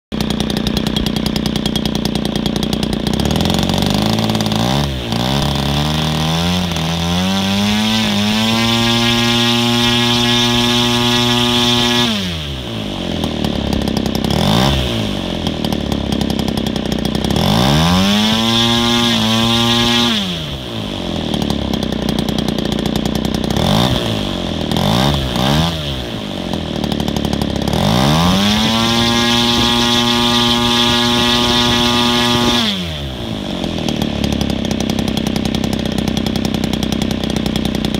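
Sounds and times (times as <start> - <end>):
model engine revving: 0.2 - 37.9.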